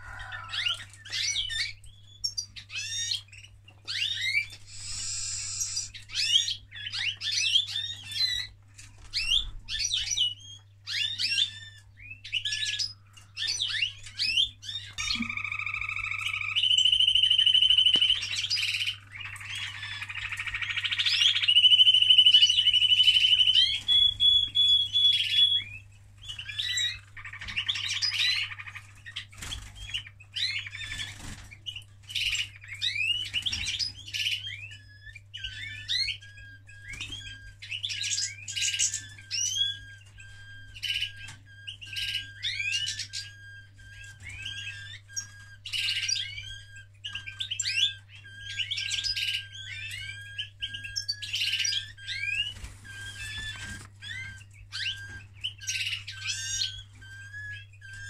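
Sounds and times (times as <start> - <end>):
canary singing chirps and trills: 0.0 - 58.0.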